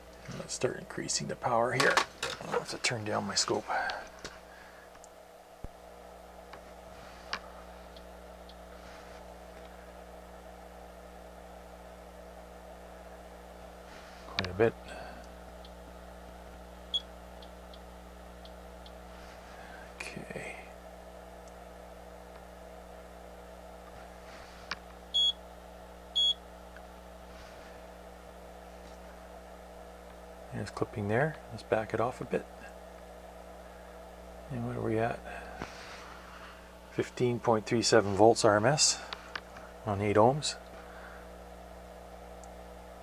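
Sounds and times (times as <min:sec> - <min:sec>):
faint low equipment hum: 0:00.0 - 0:43.0.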